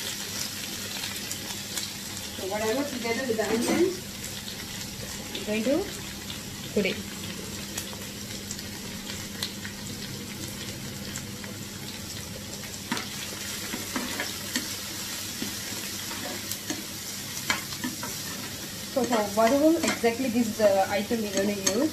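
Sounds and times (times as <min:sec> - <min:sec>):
onions sizzling in a pan: 0:00.0 - 0:21.9.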